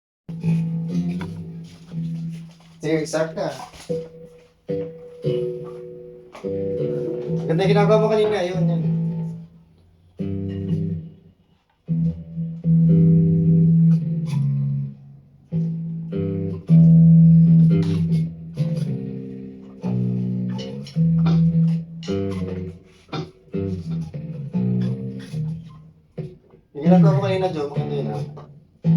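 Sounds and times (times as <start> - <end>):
electric bass plucked riff: 0.3 - 28.9.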